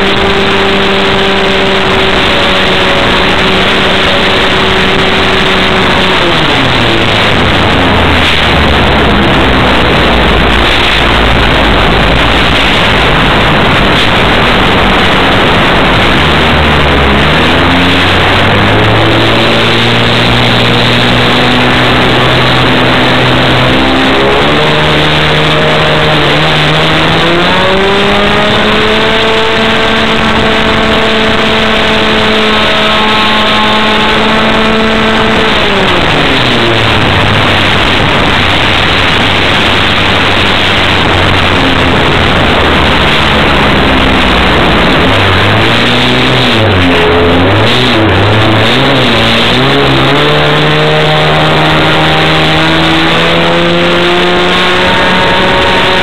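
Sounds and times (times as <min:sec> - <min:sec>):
model airplane engine: 0:00.0 - 0:56.0
wind rushing: 0:00.0 - 0:56.0.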